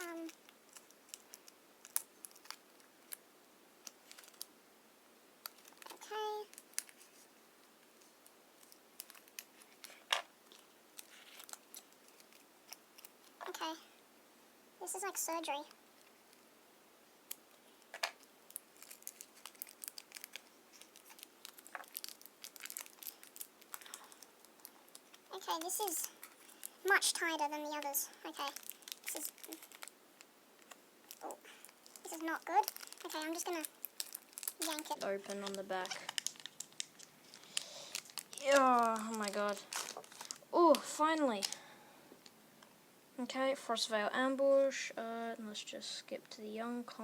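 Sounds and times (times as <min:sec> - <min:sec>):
plastic wrapper crinkling: 0:00.0 - 0:04.6, 0:05.4 - 0:13.9, 0:14.9 - 0:16.5, 0:17.2 - 0:42.4.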